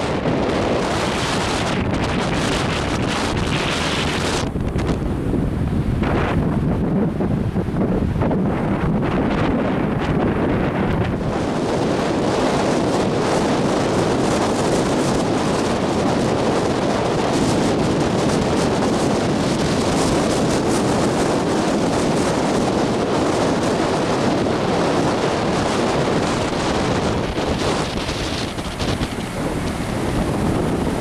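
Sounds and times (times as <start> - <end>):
strong wind on microphone: 0.0 - 31.0.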